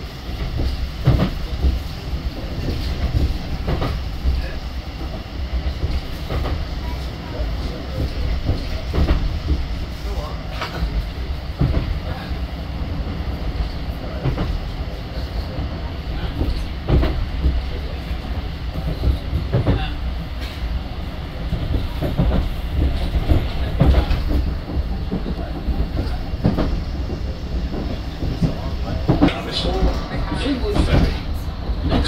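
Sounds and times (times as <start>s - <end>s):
tram rumble: 0.0s - 32.0s.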